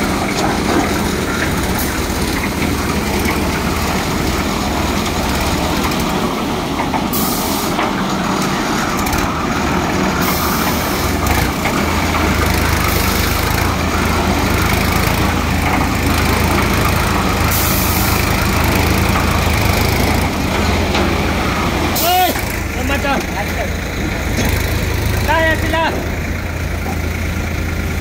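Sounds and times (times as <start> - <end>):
tractor engine running steadily: 0.0 - 28.0.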